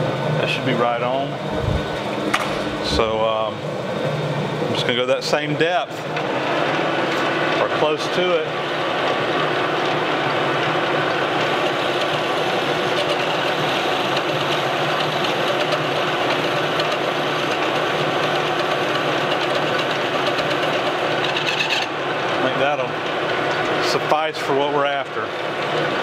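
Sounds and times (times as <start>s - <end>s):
metal lathe running: 0.2s - 26.0s.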